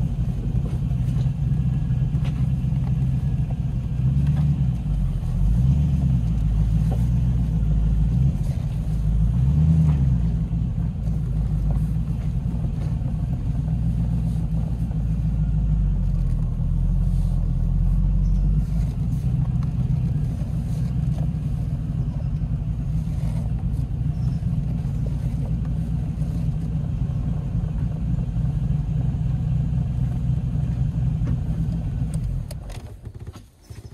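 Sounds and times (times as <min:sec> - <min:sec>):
engine burbling at low speed: 0:00.0 - 0:33.9.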